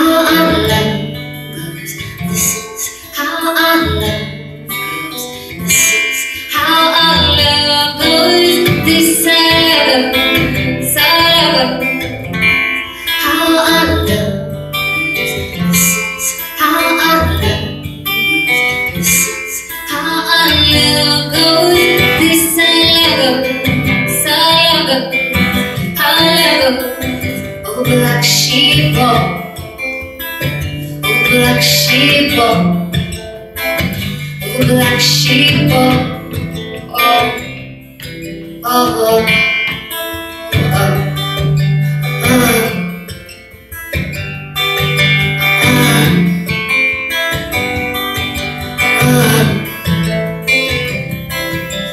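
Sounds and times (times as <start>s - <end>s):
acoustic guitar strumming: 0.0s - 51.9s.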